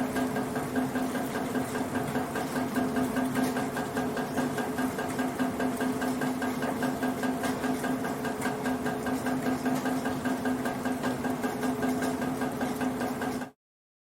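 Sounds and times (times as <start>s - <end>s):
rainwater running through metal gutter: 0.0s - 13.5s.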